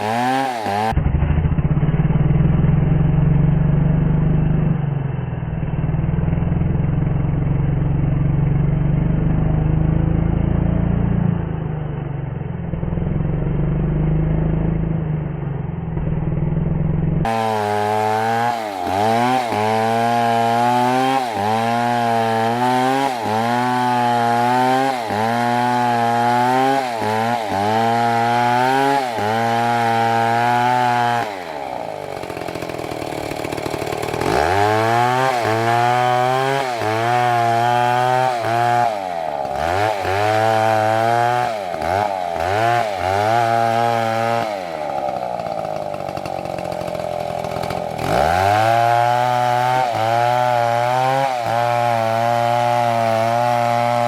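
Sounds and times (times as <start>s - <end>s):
chainsaw cutting tree trunk: 0.0s - 54.0s.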